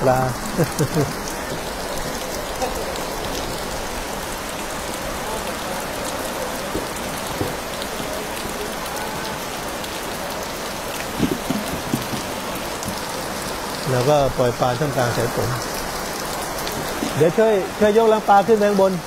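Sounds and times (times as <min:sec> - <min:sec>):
steady rain: 0:00.0 - 0:19.0
raindrop taps: 0:00.1 - 0:03.7, 0:04.6 - 0:14.2, 0:14.8 - 0:17.4.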